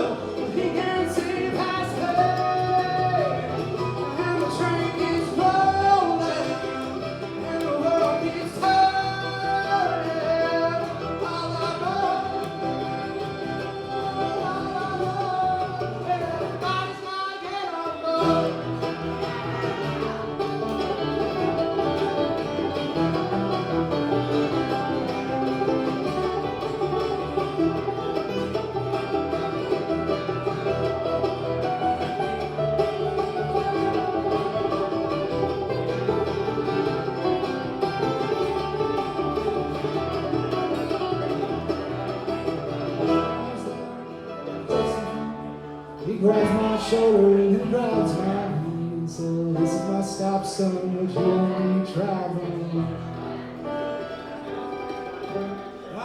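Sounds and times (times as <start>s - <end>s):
sliding lead melody: 0.0s - 17.0s, 18.0s - 56.0s
banjo picking: 0.0s - 56.0s
guitar picking: 0.0s - 56.0s.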